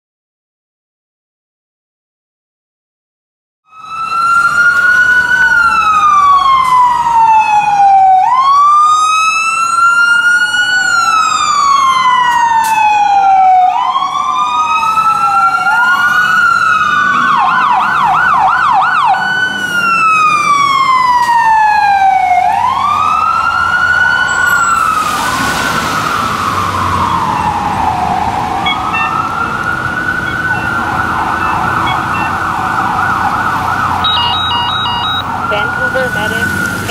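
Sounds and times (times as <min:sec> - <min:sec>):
fire truck sirens wailing: 0:03.7 - 0:36.9.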